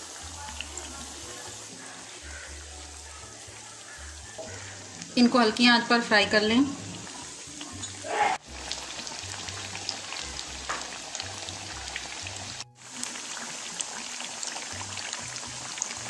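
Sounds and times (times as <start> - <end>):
hot oil sizzling and popping: 0.0 - 16.0.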